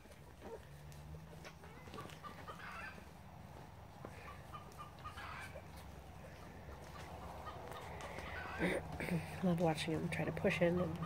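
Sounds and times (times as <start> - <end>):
small clucking animal calls: 0.0 - 9.4, 10.3 - 11.0
low background hum: 0.0 - 11.0.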